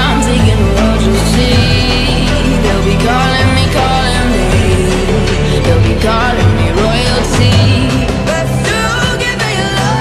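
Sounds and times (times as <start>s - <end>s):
pop-rock song with singing: 0.0s - 10.0s.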